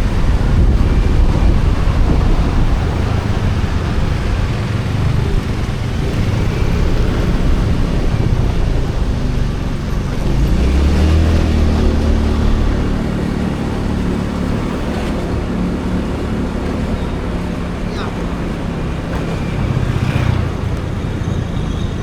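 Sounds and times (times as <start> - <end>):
motorbike engine running: 0.0 - 22.0
wind and road noise: 0.0 - 22.0.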